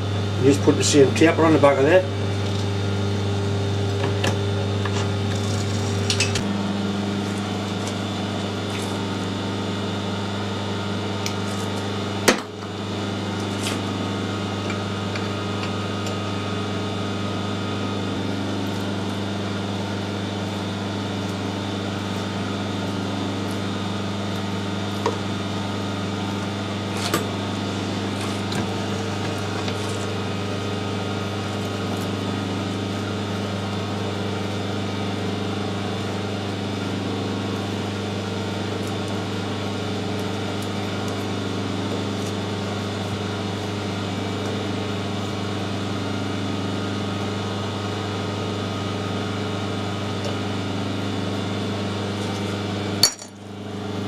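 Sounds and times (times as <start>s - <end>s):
metal lathe humming: 0.0s - 54.0s.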